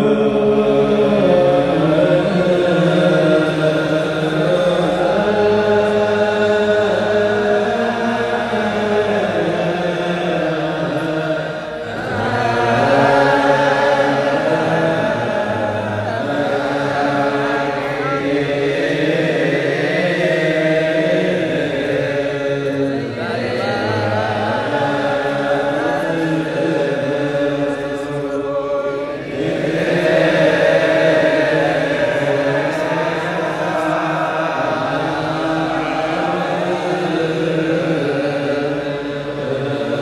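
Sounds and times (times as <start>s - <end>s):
many voices chanting: 0.0s - 40.0s.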